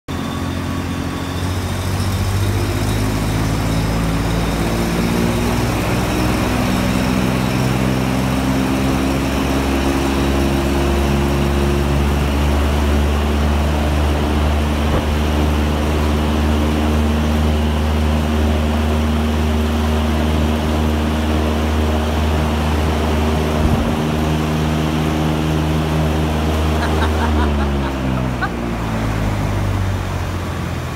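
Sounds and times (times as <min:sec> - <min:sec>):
fan motor drone: 0:00.1 - 0:30.9.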